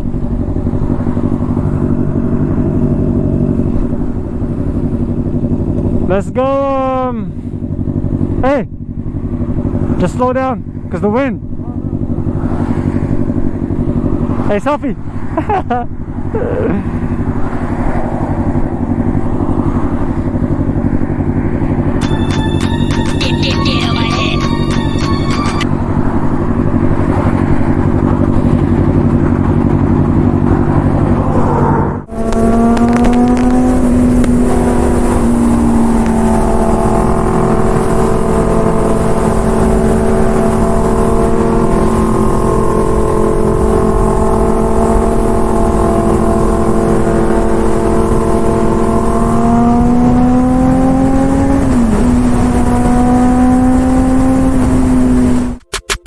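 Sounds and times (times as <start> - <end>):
motorcycle engine cruising: 0.0 - 55.7.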